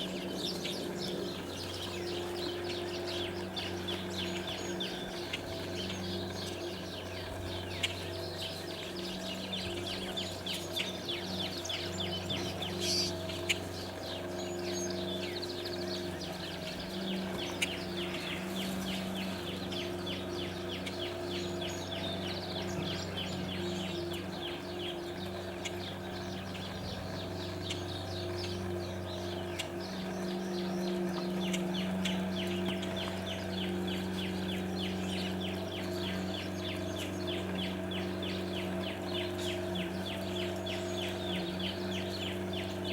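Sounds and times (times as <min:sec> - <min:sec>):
low mechanical hum: 0:00.0 - 0:42.9
songbirds chirping: 0:00.0 - 0:42.9.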